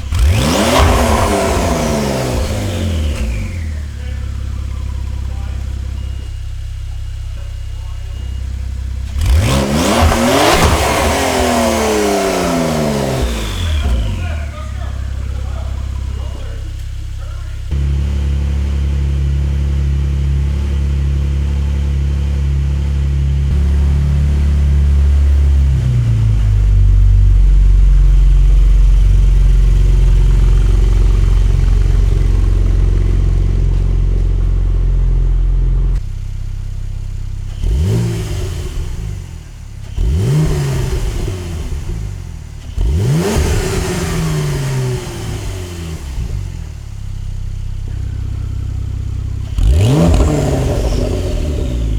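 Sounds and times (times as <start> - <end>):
car engine and exhaust droning: 0.0 - 51.9
car engine revving: 0.0 - 51.9.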